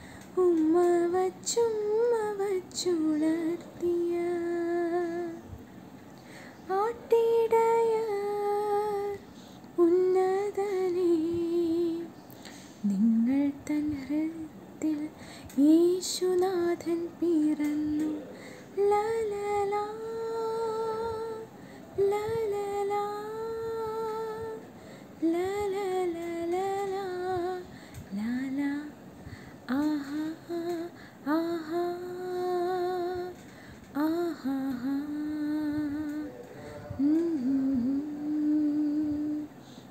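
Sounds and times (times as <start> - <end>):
woman singing unaccompanied: 0.0 - 5.6, 6.6 - 39.9.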